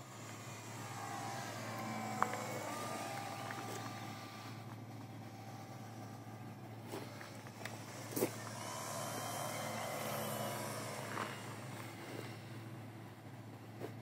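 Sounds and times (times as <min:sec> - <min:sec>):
model plane flying past: 0:00.0 - 0:12.8.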